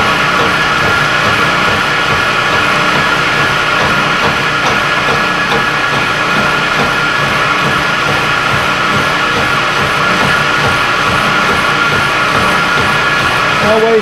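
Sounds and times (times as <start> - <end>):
milling machine running: 0.0 - 14.0.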